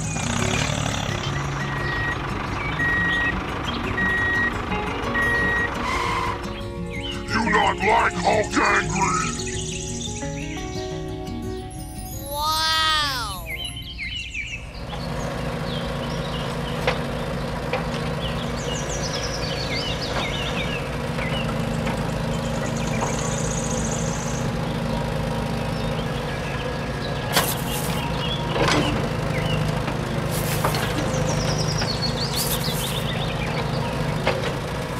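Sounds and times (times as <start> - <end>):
birds chirping: 0.0 - 4.5, 5.1 - 34.9.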